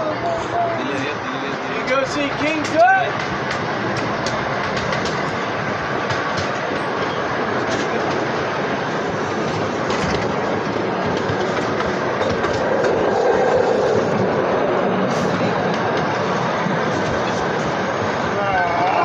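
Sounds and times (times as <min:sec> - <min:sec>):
freight train rolling: 0:00.0 - 0:19.0
wheels clicking over rails: 0:00.2 - 0:19.0.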